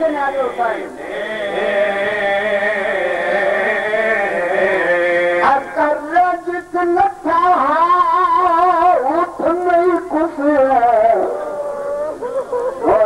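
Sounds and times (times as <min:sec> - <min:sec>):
man chanting through microphone: 0:00.0 - 0:11.8.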